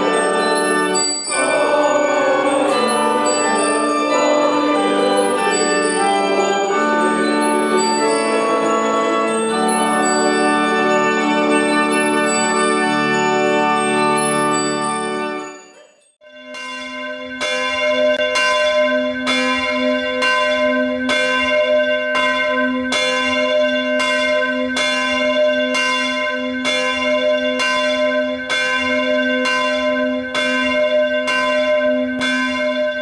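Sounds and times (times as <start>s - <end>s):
church bell ringing: 0.0s - 33.0s.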